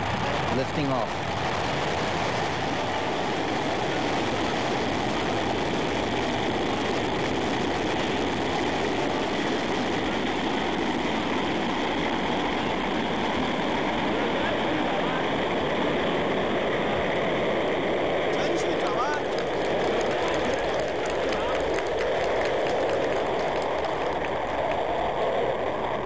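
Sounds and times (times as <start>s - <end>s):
rocket engines roaring: 0.0s - 26.0s.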